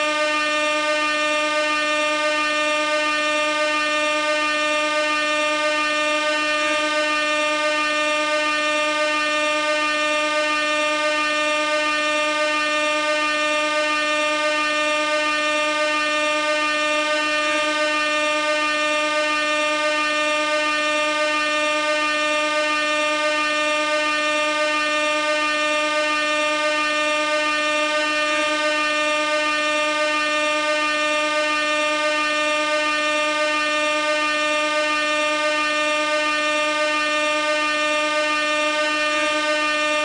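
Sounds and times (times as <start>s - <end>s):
air horn long steady note: 0.0s - 40.0s.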